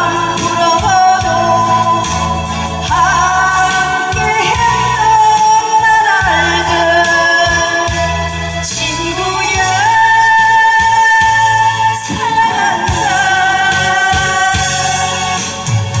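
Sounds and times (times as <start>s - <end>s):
instrumental accompaniment with beat: 0.0s - 16.0s
woman singing into microphone: 0.0s - 16.0s.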